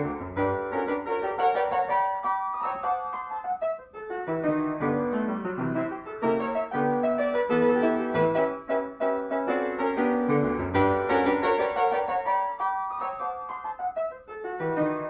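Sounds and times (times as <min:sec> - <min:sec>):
lively solo piano: 0:00.0 - 0:15.0.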